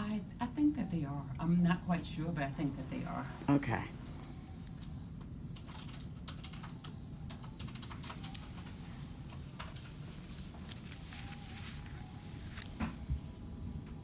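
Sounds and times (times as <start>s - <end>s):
low room rumble: 0.0s - 14.0s.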